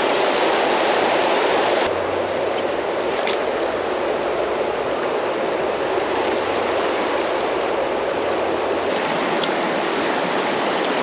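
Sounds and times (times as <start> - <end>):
creek water rushing over rocks: 0.0 - 11.0.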